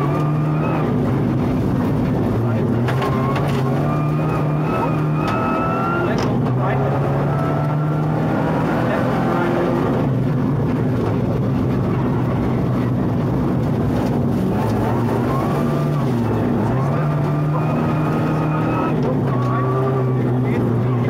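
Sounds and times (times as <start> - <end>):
rally car engine running hard: 0.0 - 21.0.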